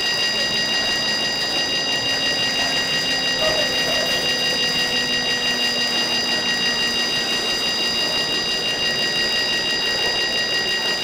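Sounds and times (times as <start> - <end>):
steady high-pitched tones: 0.0 - 11.0.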